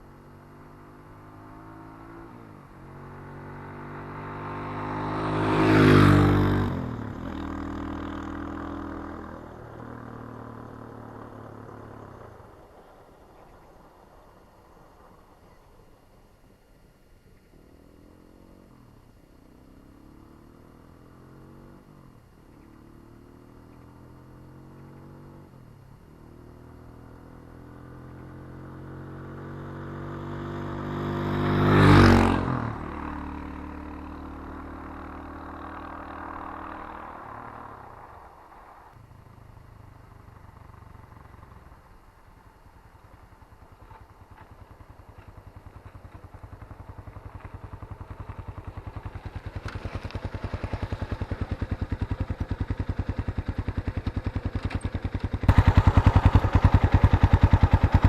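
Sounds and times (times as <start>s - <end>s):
motorcycle engine riding past: 0.0s - 58.0s.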